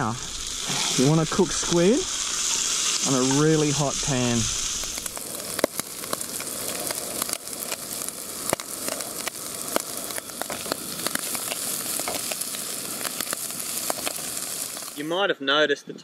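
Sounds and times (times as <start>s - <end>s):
oil crackles and pops: 0.0s - 15.2s
frying in hot oil sizzling: 0.0s - 15.3s.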